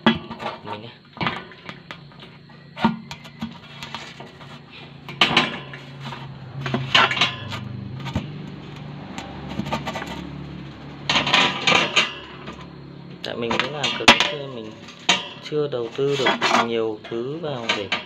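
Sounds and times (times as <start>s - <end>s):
hard objects clattering: 0.0s - 18.0s
steady low hum: 0.0s - 18.0s.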